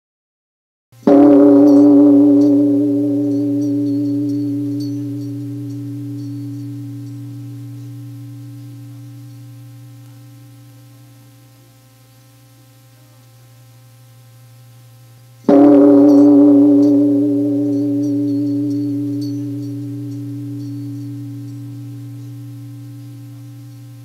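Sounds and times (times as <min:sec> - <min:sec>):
meditation bowl ringing: 0:01.0 - 0:12.0, 0:14.4 - 0:24.0
low steady drone: 0:01.1 - 0:11.9, 0:15.5 - 0:24.0.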